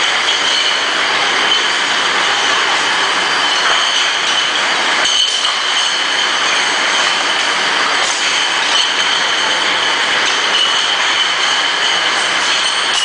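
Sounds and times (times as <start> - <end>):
bottle washing machine din: 0.0 - 13.0.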